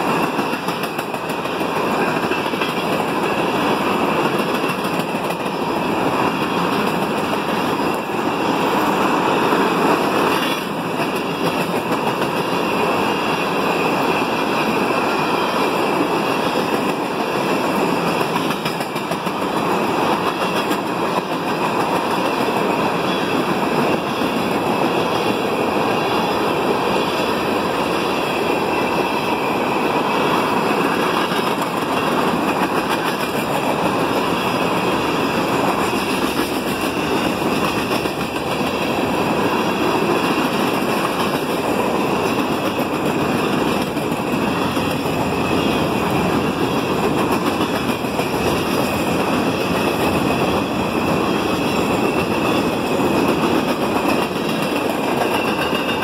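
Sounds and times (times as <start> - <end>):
freight train rolling past: 0.0 - 56.0
wheels clicking on rail: 0.0 - 56.0.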